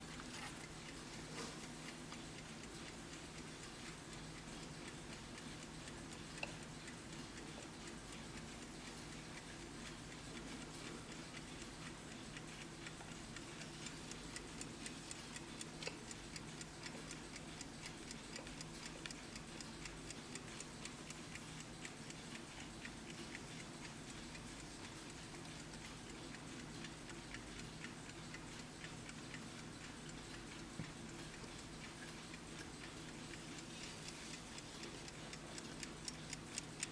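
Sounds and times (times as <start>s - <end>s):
alarm clock ticking: 0.0s - 36.9s.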